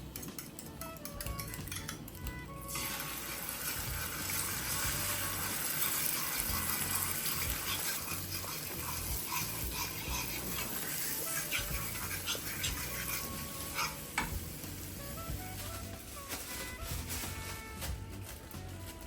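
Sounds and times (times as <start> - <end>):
background music: 0.0 - 19.0
water running from a tap: 0.9 - 17.7.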